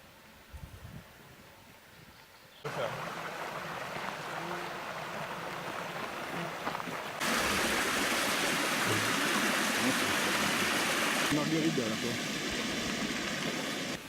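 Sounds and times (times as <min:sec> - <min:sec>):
stream water rushing: 0:02.7 - 0:14.0.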